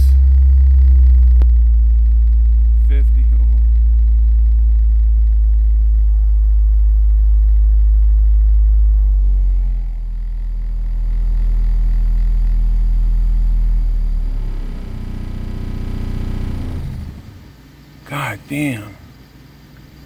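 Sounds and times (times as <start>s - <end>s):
deep subwoofer bass tone: 0.0s - 17.2s.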